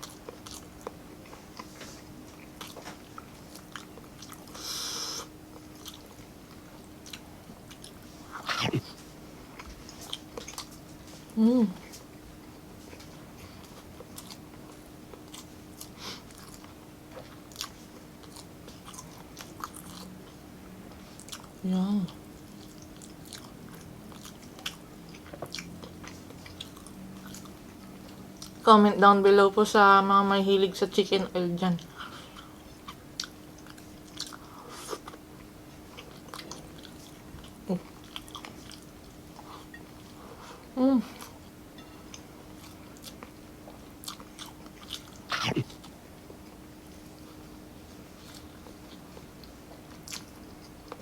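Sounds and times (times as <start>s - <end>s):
person chewing: 0.0s - 12.1s, 12.9s - 20.4s, 21.0s - 28.6s, 31.8s - 47.5s, 48.1s - 51.0s
faint steady hum: 0.0s - 51.0s.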